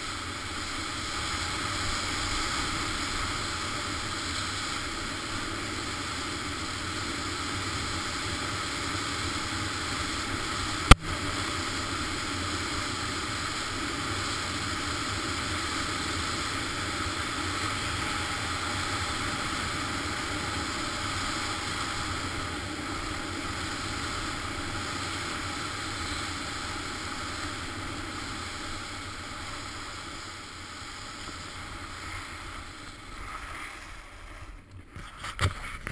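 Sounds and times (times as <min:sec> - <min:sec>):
skis gliding over snow: 0:00.0 - 0:35.9.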